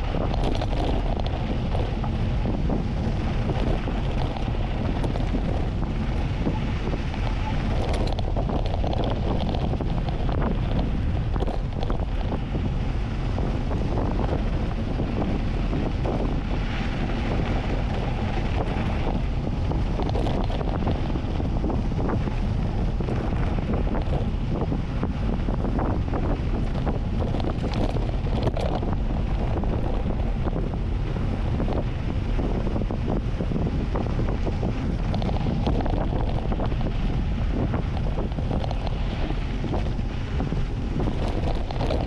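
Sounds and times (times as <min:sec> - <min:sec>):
bike knocks and rattles: 0:00.0 - 0:12.8, 0:13.4 - 0:42.0
wind buffeting microphone: 0:00.0 - 0:42.0.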